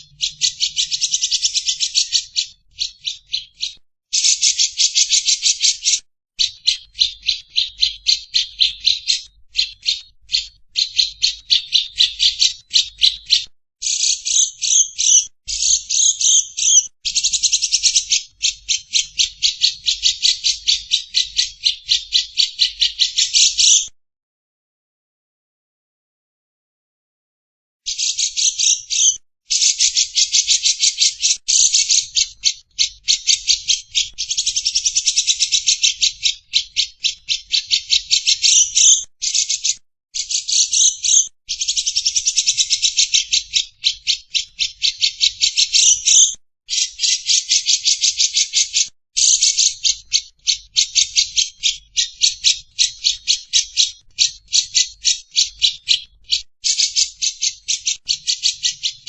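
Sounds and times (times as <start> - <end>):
lovebird chattering: 0.0 - 23.9, 27.9 - 59.0.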